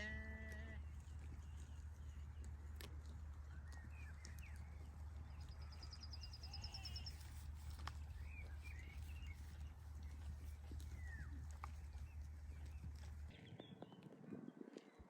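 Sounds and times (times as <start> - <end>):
low outdoor hum: 0.0 - 15.0
small birds chirping: 0.2 - 15.0.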